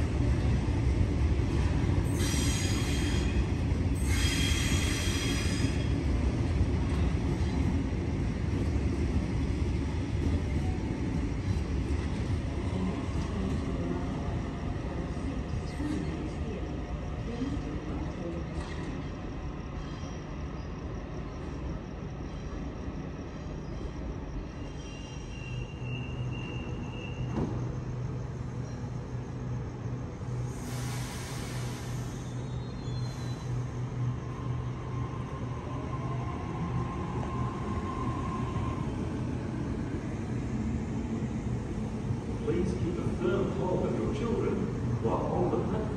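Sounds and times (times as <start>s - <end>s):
electric train rumbling: 0.0s - 45.9s.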